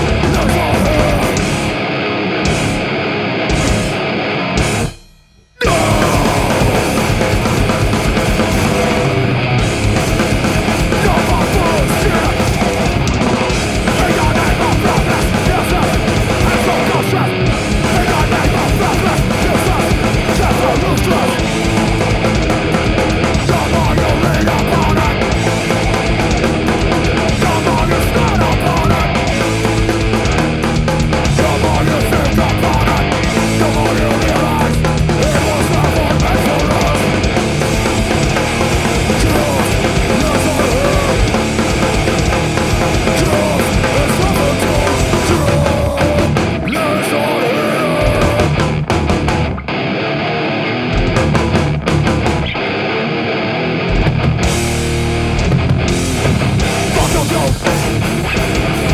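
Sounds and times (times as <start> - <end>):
heavy rock band playing: 0.0 - 58.9.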